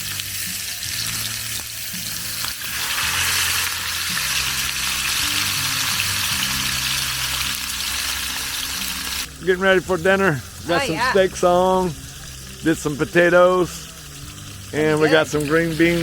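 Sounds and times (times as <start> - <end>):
steaks sizzling: 0.0 - 16.0.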